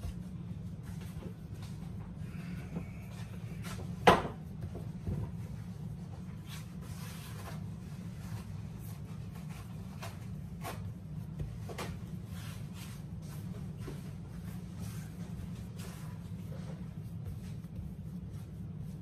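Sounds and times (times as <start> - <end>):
hands rubbing and tapping dough: 0.0 - 19.0
steady low hum: 0.0 - 19.0.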